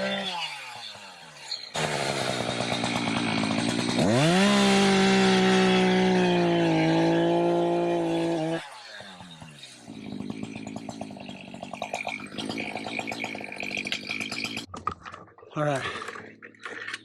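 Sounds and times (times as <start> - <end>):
chainsaw revving: 0.0 - 14.7.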